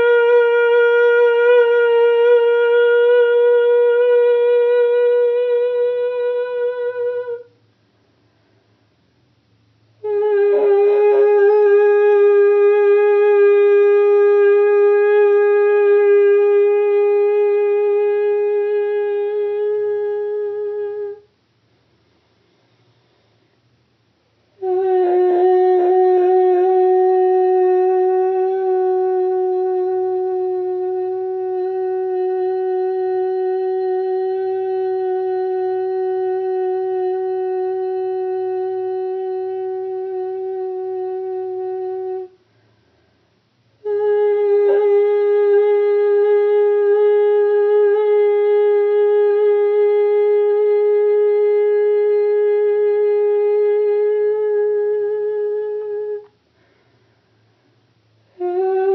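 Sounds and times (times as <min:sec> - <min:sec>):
person singing long steady tone: 0:00.0 - 0:07.6, 0:10.0 - 0:21.3, 0:24.6 - 0:42.4, 0:43.8 - 0:56.3, 0:58.3 - 0:58.9.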